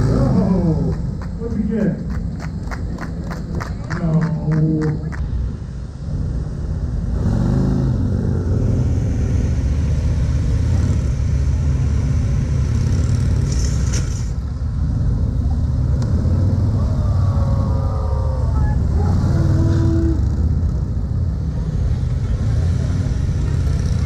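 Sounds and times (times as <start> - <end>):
motorcycle engines running slowly: 0.0 - 24.0.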